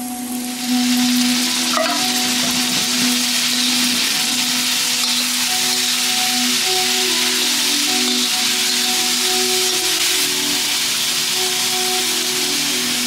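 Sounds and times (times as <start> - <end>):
music of long held notes: 0.0 - 13.0
noodles sizzling in a wok: 0.0 - 13.0.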